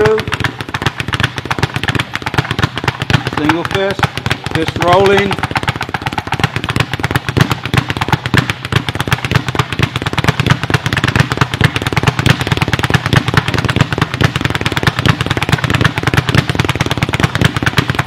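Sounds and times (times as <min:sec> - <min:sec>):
speed bag being punched: 0:00.0 - 0:18.0.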